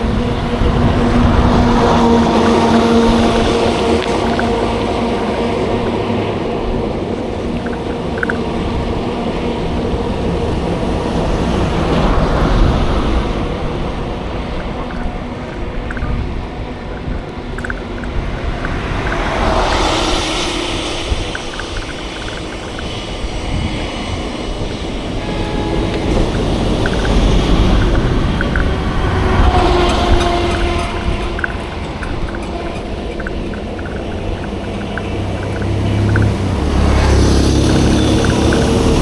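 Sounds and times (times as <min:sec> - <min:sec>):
vehicle passing: 0:00.0 - 0:25.1, 0:25.8 - 0:39.0
low engine rumble of traffic: 0:00.0 - 0:39.0.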